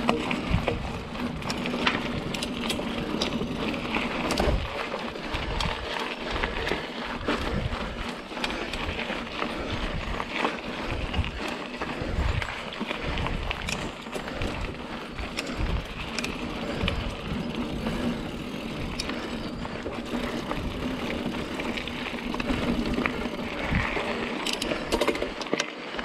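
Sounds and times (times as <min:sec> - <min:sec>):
bike clicks and knocks: 0:00.0 - 0:26.0
mountain bike tyre noise: 0:00.0 - 0:26.0.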